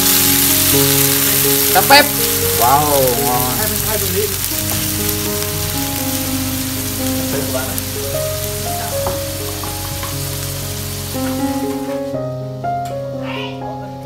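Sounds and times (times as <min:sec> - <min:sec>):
food sizzling in a pan: 0:00.0 - 0:12.6
background music: 0:00.0 - 0:14.0.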